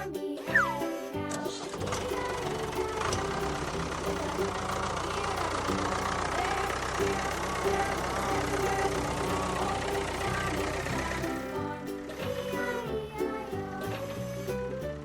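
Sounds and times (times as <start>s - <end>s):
cartoon loader engine humming: 0.0s - 15.0s.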